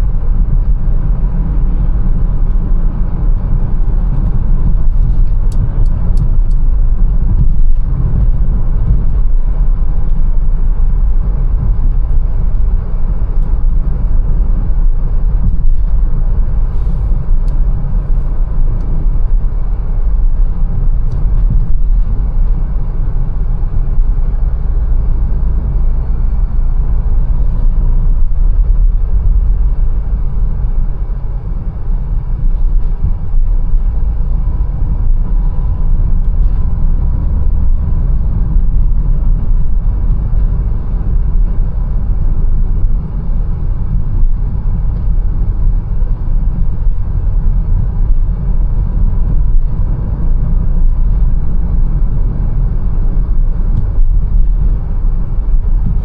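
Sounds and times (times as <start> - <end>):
car engine rumble: 0.0 - 56.0
tyre road noise: 0.0 - 56.0.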